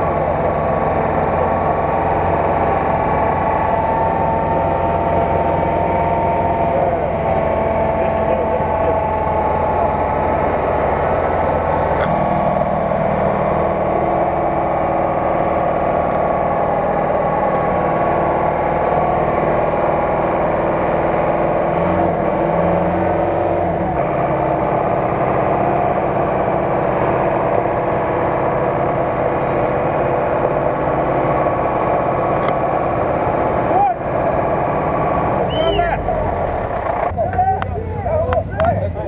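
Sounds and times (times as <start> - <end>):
off-road vehicle engine running: 0.0 - 39.0.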